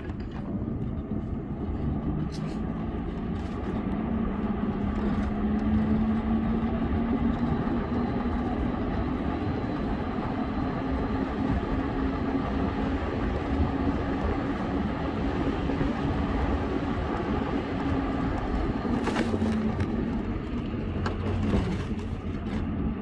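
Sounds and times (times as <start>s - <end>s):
road and wind noise: 0.0s - 23.0s
vehicle engine running: 0.0s - 23.0s.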